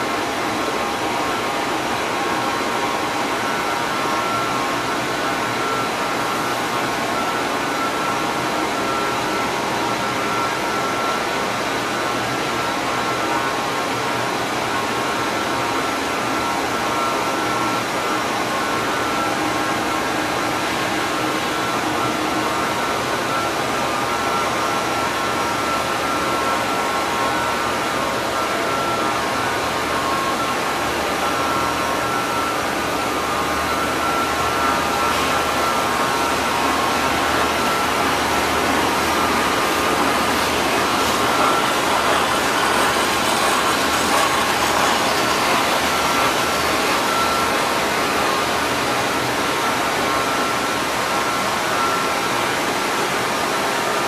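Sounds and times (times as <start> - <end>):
tube mill machinery hum: 0.0 - 54.0.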